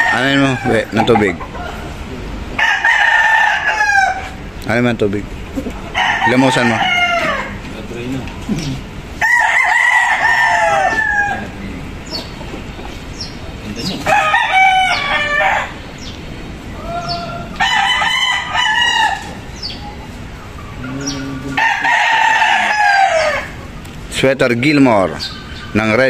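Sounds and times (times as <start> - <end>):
roosters crowing: 0.0 - 26.0.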